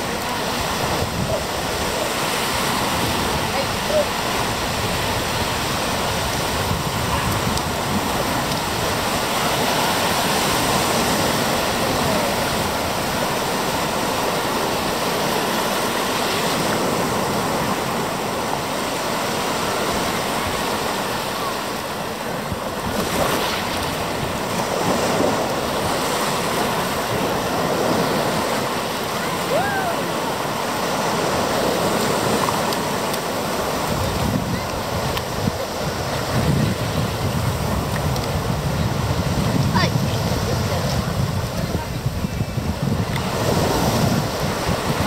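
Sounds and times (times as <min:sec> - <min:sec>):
water rushing: 0:00.0 - 0:45.0.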